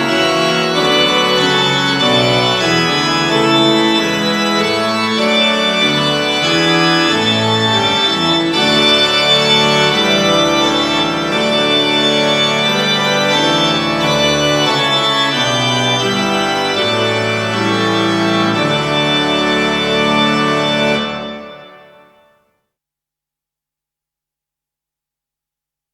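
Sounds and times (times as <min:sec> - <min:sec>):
organ playing slow chords: 0:00.0 - 0:22.3.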